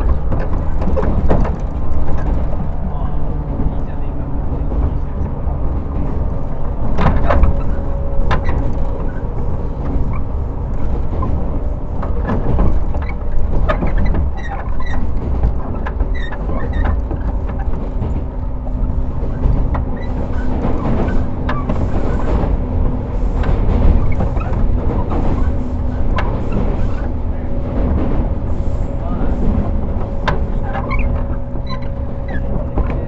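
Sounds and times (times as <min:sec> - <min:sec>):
electric train interior rumble: 0:00.0 - 0:33.0.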